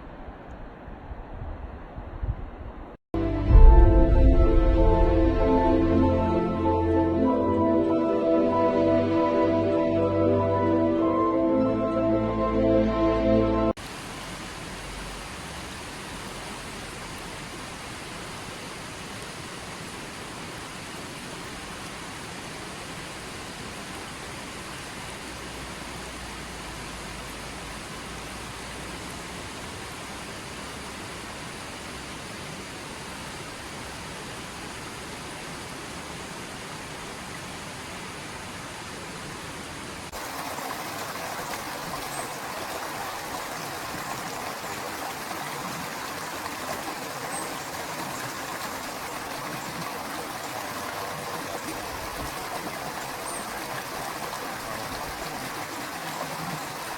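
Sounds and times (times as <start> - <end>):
waterfall and river rushing: 3.2 - 56.9.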